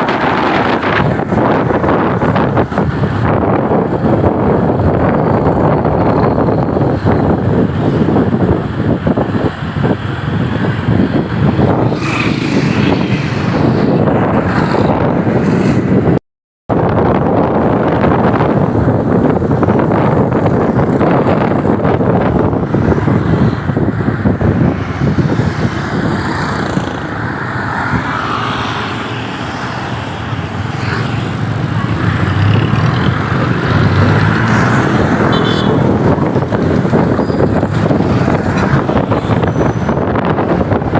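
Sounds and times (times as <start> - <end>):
road noise: 0.0 - 40.9
traffic noise: 0.0 - 40.9
wind rushing over microphone: 0.0 - 40.9.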